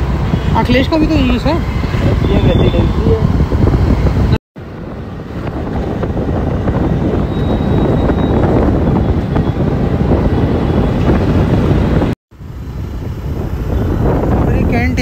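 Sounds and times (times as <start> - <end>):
scooter engine and road noise: 0.0 - 15.0
wind on microphone: 0.0 - 15.0.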